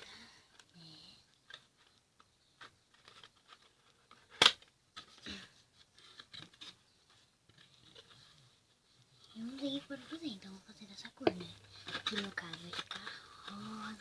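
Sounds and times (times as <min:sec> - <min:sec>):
objects being handled: 0:00.0 - 0:14.0.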